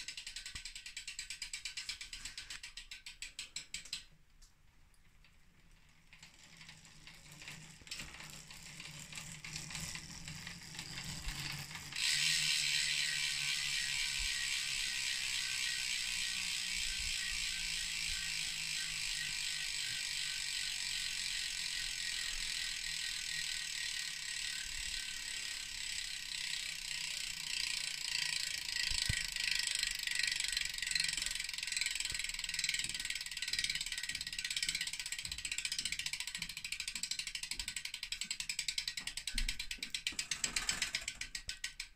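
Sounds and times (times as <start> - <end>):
bicycle freewheel ratchet buzz: 0.0 - 4.1, 5.5 - 41.9.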